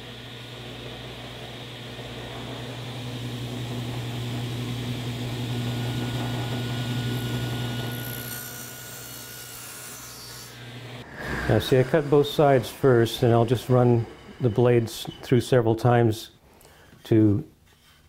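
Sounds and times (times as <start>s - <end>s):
table saw cutting board: 0.0s - 16.1s.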